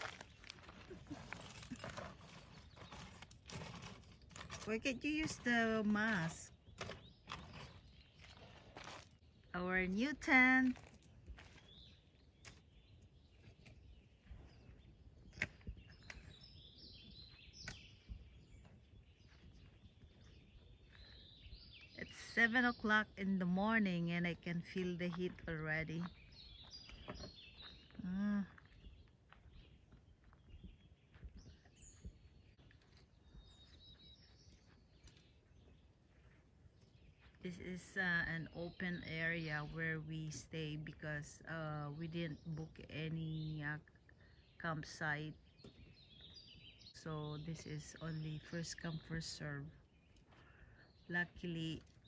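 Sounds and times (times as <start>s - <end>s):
faint birdsong: 0.0s - 52.0s.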